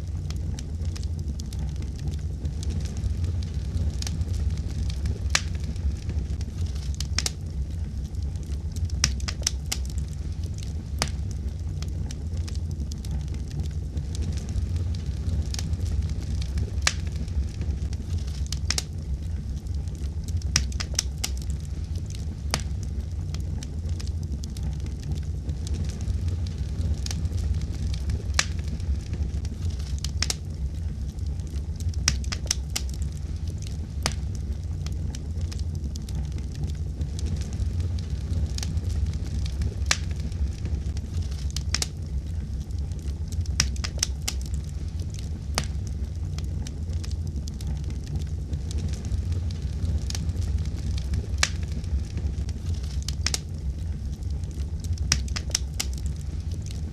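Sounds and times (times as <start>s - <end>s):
fire crackling in a fireplace: 0.0s - 56.9s.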